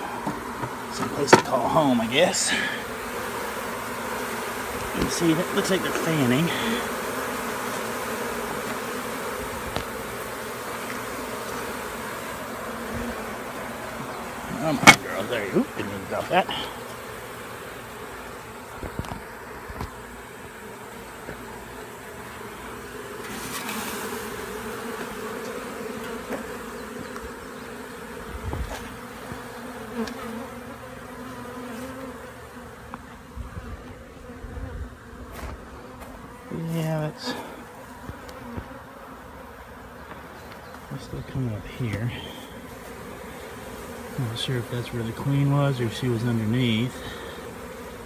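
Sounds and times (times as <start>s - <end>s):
bees buzzing: 0.0s - 48.0s.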